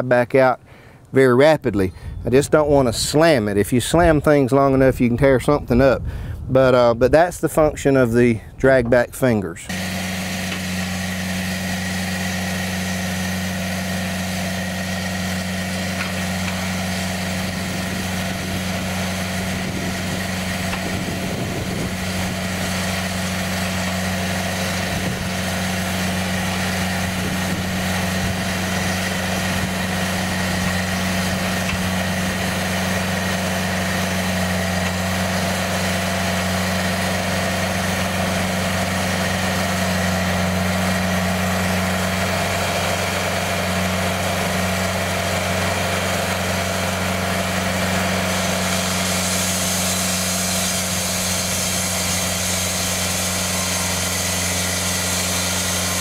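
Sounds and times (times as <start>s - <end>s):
sawmill engine humming: 8.0s - 56.0s.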